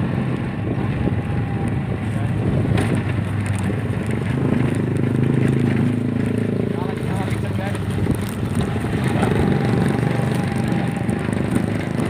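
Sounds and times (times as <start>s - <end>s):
motorcycle engine running: 0.0s - 12.0s
road rumble: 0.0s - 12.0s.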